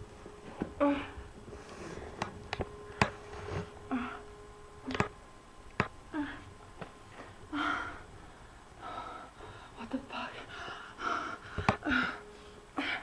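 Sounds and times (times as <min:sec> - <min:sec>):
woman breathing and whimpering: 0:00.4 - 0:05.1, 0:06.1 - 0:13.0.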